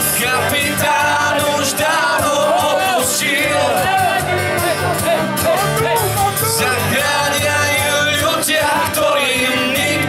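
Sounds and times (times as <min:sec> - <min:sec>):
acoustic guitar: 0:00.0 - 0:10.0
electric bass: 0:00.0 - 0:10.0
person singing: 0:00.0 - 0:10.0
steady drum beat: 0:00.0 - 0:10.0.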